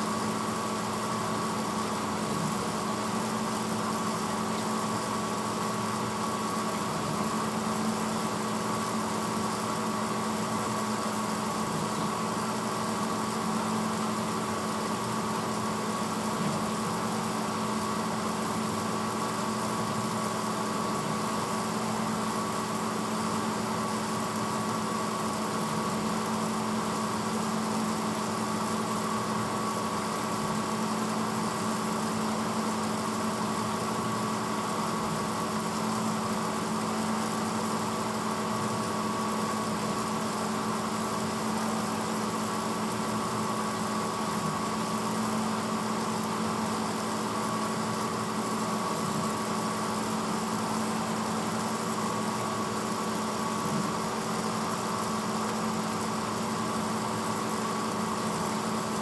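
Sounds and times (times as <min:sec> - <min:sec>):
dishwasher motor hum: 0:00.0 - 0:59.0.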